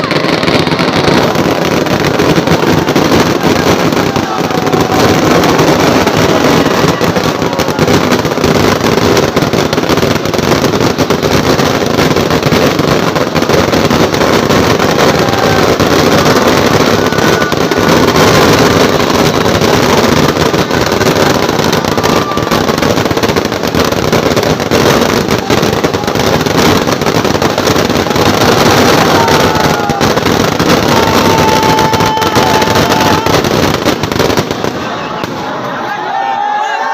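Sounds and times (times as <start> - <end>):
fireworks crackling: 0.0 - 36.9.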